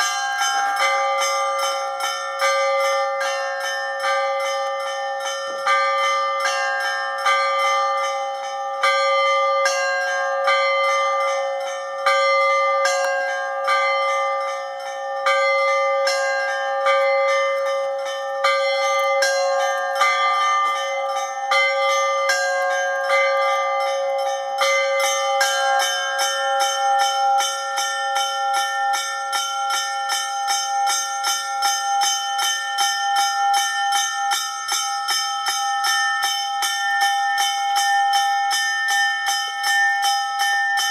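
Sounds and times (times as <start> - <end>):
low church bell humming: 0.0 - 40.9
small bells striking rhythmically: 0.0 - 40.9.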